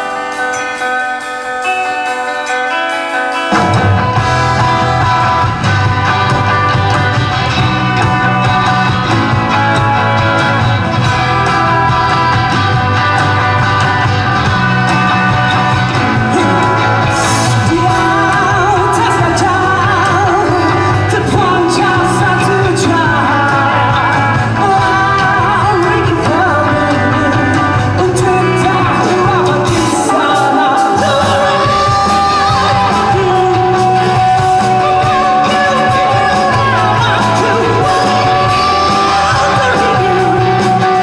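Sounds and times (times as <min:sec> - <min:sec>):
person singing: 0:00.0 - 0:41.0
rock band playing: 0:00.0 - 0:41.0.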